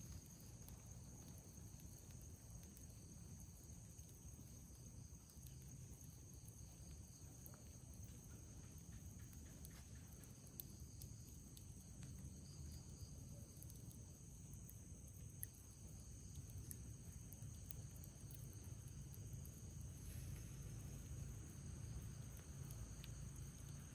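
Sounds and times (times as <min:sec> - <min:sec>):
campfire crackles: 0:00.0 - 0:23.9
crickets trilling: 0:00.0 - 0:23.9.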